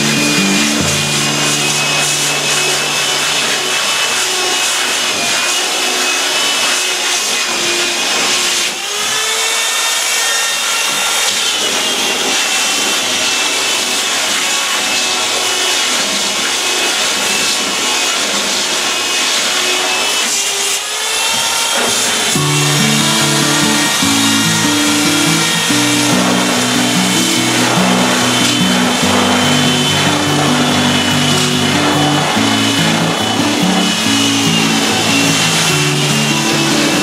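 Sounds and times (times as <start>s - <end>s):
electric sander grinding: 0.0s - 37.0s.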